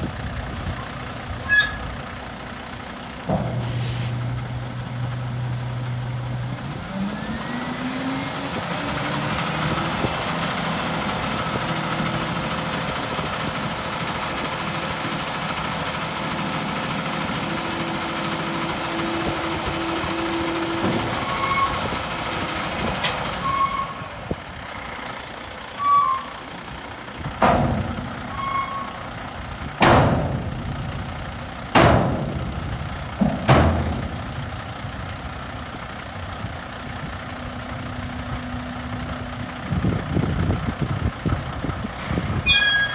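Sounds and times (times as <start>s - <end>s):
diesel truck engine revving: 0.0s - 42.9s.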